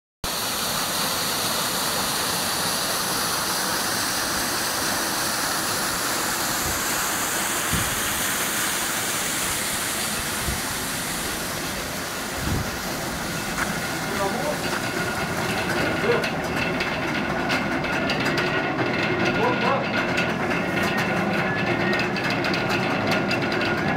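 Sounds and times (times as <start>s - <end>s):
water gushing: 0.2s - 23.9s.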